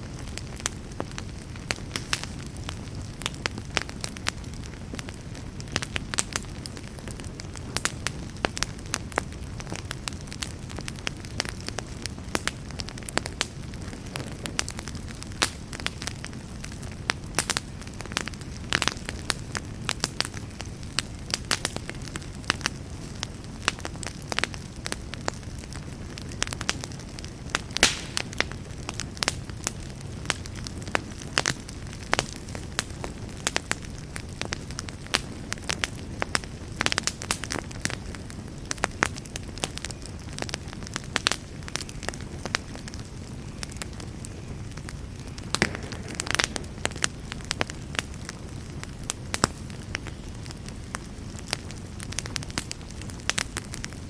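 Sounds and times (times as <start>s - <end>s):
burning wood crackling: 0.0s - 54.0s
campfire flames rushing: 0.0s - 54.0s.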